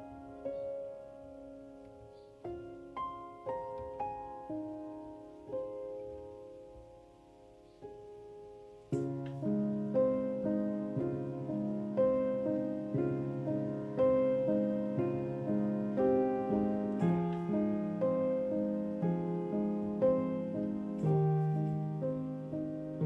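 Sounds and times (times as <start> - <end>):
soft piano notes: 0.0 - 23.0.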